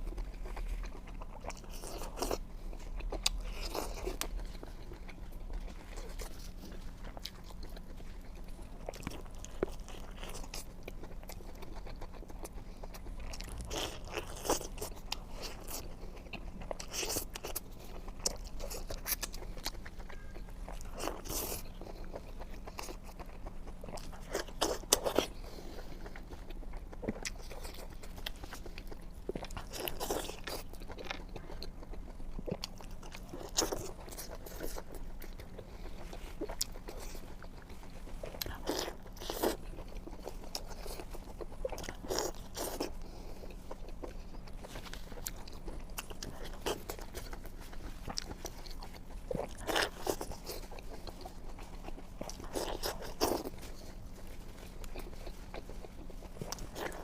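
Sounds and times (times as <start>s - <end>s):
crunchy bites and chewing: 0.0s - 57.0s.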